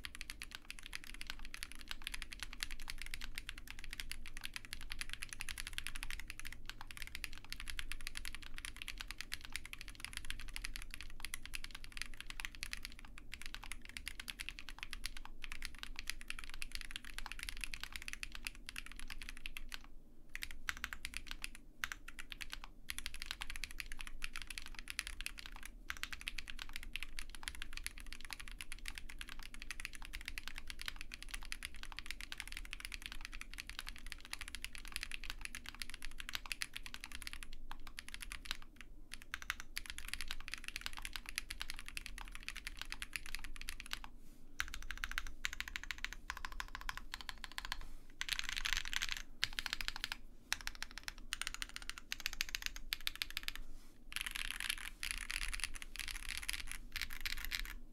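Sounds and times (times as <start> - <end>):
mechanical keyboard typing: 0.0 - 57.8.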